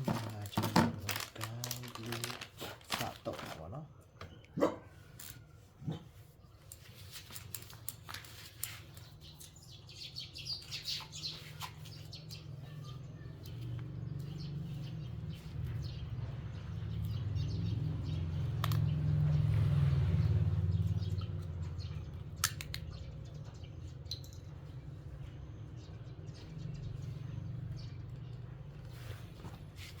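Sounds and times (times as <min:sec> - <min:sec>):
birds chirping: 0:00.0 - 0:29.8.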